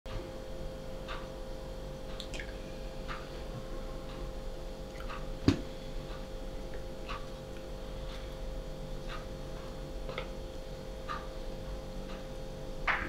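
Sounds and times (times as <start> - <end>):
faint hum: 0.1 - 13.0.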